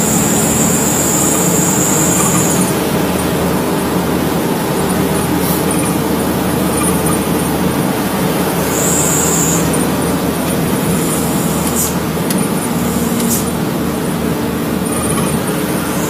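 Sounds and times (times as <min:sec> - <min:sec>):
road and tyre noise: 0:00.0 - 0:16.0
truck engine running: 0:00.0 - 0:16.0.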